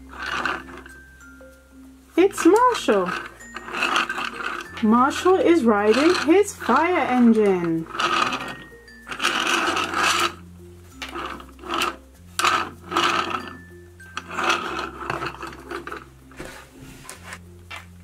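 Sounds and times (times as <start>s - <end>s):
toy wheels scraping on tabletop: 0.0s - 1.0s, 2.2s - 17.4s
soft background music: 0.0s - 18.0s.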